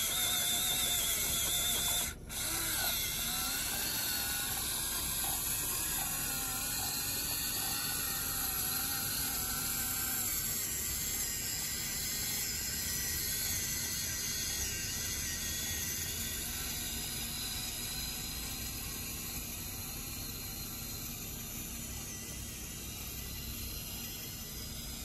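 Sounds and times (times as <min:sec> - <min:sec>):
toy motor and gears whirring: 0:00.0 - 0:25.0.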